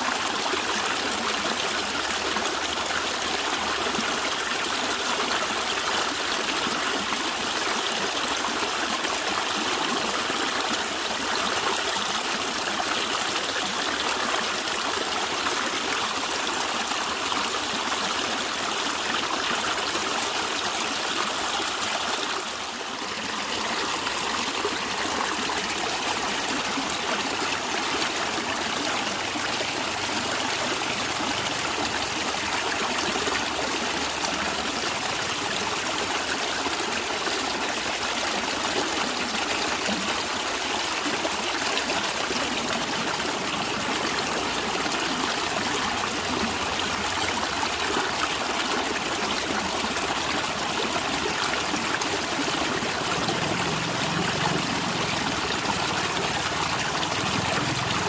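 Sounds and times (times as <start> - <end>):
stream flowing and gurgling: 0.0 - 58.0.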